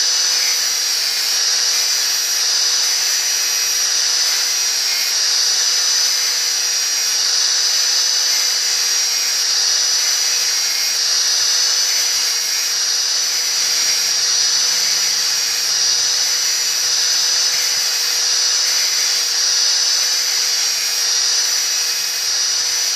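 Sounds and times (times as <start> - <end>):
angle grinder grinding metal blade: 0.0 - 22.9.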